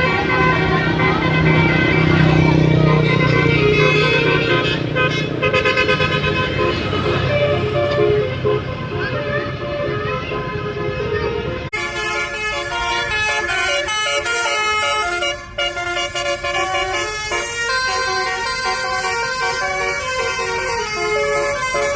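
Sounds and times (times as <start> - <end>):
air horns playing melody: 0.0 - 21.9.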